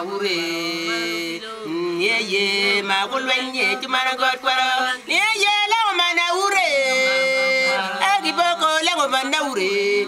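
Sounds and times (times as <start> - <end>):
voices singing in harmony: 0.0 - 10.0.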